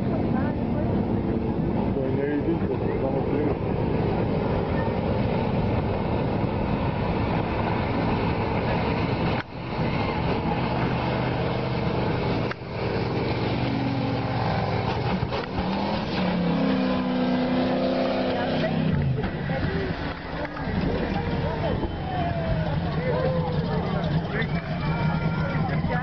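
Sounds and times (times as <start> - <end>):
speedboat engine running hard: 0.0 - 26.0.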